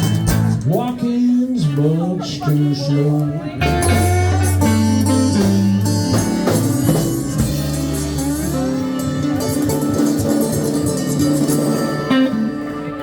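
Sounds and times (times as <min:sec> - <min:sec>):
drums: 0:00.0 - 0:02.8, 0:03.6 - 0:13.0
bass: 0:00.0 - 0:13.0
blues guitar: 0:00.0 - 0:13.0.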